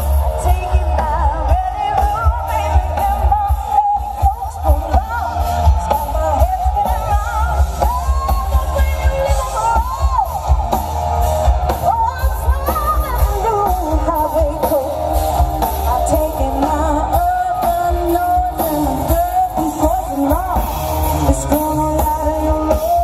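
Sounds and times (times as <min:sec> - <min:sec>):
live rock band: 0:00.0 - 0:23.0
person singing: 0:00.0 - 0:23.0.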